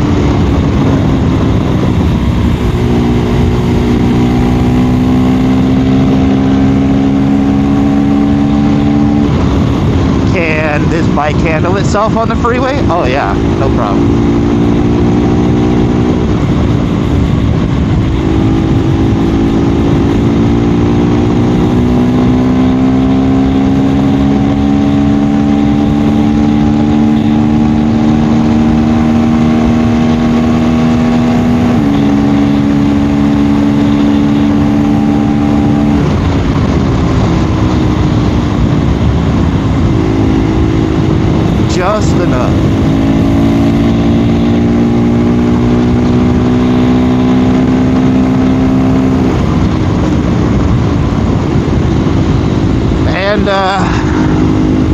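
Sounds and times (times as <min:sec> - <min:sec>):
motorcycle engine cruising: 0:00.0 - 0:54.9
wind noise: 0:00.0 - 0:54.9.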